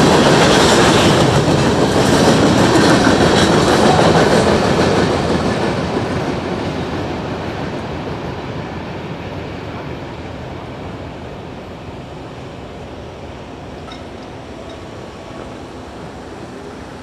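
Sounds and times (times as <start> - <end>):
freight train moving: 0.0 - 17.0.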